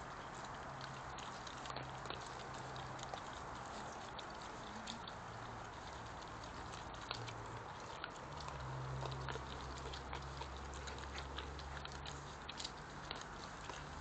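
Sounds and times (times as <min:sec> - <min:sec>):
animals chewing and crunching: 0:00.0 - 0:14.0.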